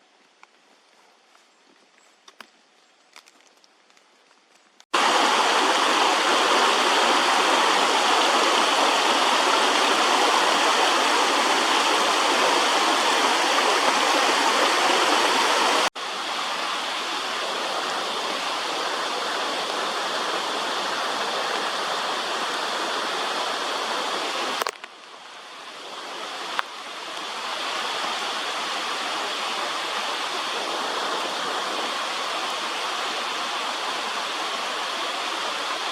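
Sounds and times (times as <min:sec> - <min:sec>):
waterfall rushing: 0:05.0 - 0:35.9.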